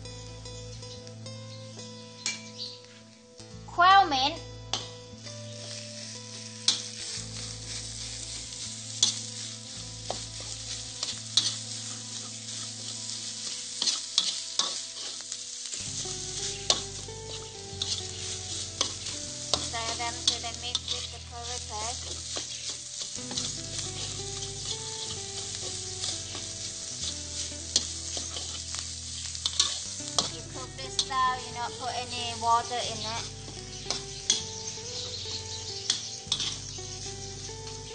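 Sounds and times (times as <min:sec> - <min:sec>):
metal spatula scraping wok: 0:04.7 - 0:37.9
meat frying in oil: 0:05.2 - 0:37.9.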